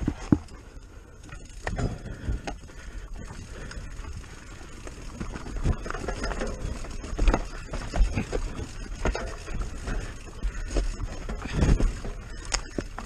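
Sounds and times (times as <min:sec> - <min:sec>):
bike knocks and rattles: 0:00.0 - 0:13.0
bike tyres crunching over gravel: 0:00.0 - 0:13.0.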